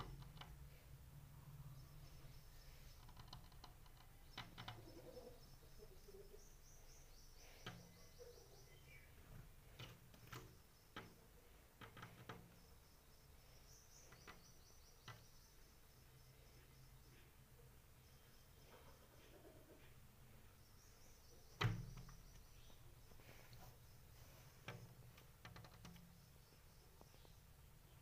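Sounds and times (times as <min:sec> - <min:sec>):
small birds chirping and trilling: 0:00.0 - 0:28.0.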